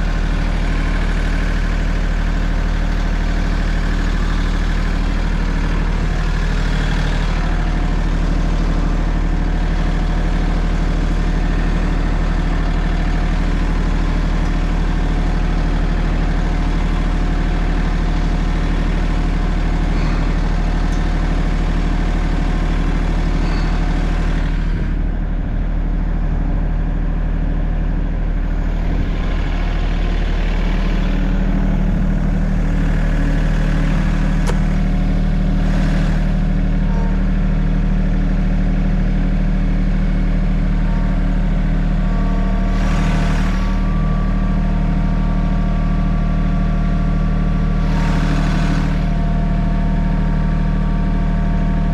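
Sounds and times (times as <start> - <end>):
heavy engine idling: 0.0 - 51.9.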